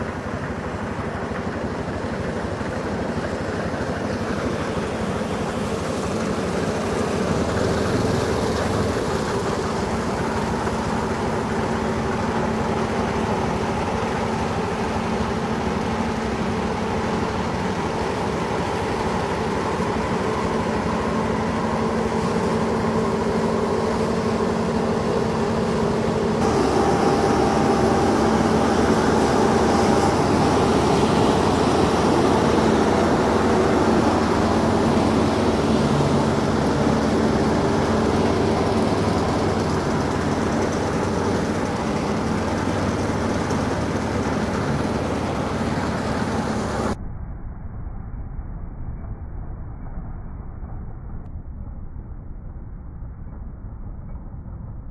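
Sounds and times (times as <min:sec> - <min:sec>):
combine harvester hum: 0:00.0 - 0:47.0.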